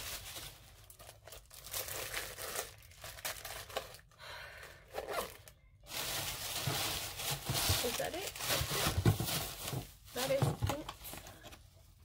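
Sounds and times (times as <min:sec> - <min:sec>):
packaging crinkling: 0:00.0 - 0:11.7.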